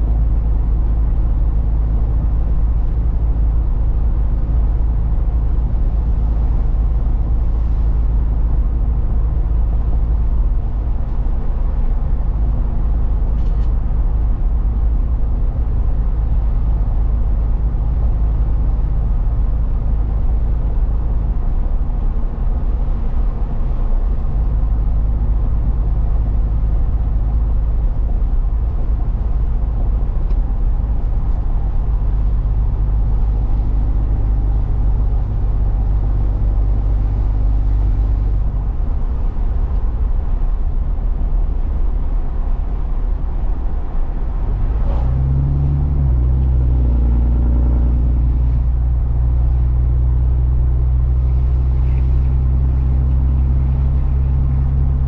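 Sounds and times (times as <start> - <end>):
truck engine rumble: 0.0 - 55.0.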